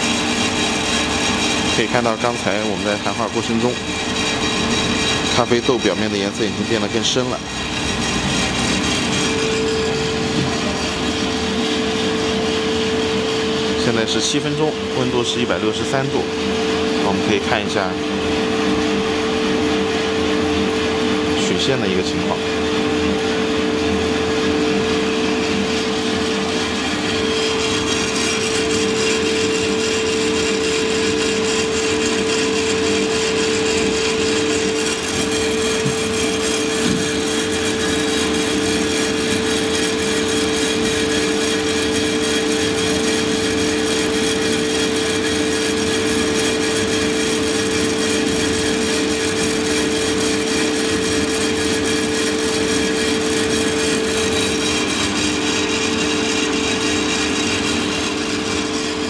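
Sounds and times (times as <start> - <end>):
coffee roaster mechanical hum: 0.0 - 59.0.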